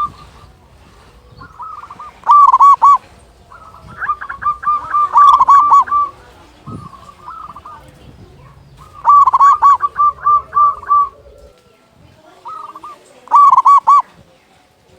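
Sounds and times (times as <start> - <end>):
dove cooing: 0.0 - 14.7.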